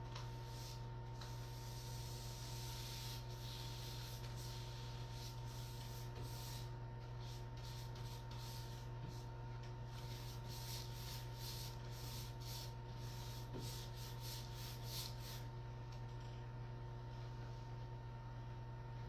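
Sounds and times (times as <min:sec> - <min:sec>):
steady low hum: 0:00.0 - 0:19.0
paint roller strokes on wall: 0:00.1 - 0:15.5.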